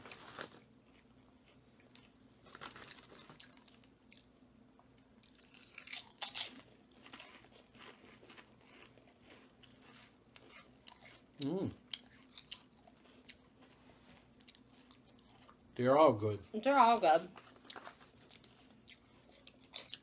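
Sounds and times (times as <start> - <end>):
people chewing potato chips: 0.0 - 4.4, 5.2 - 15.7, 16.8 - 20.0.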